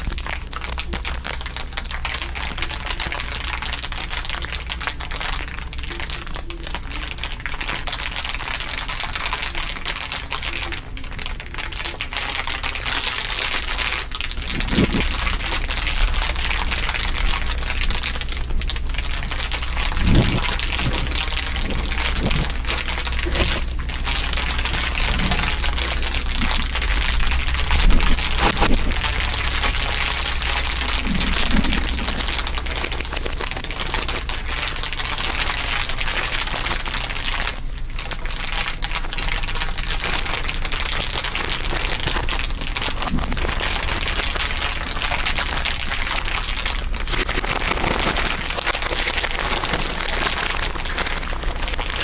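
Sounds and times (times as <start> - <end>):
dense crinkling crackle: 0.0 - 52.0.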